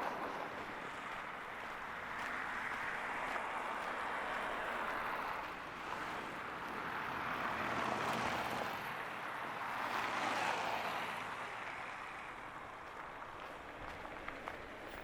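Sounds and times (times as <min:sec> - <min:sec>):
tyre hiss of passing traffic: 0:00.0 - 0:15.0.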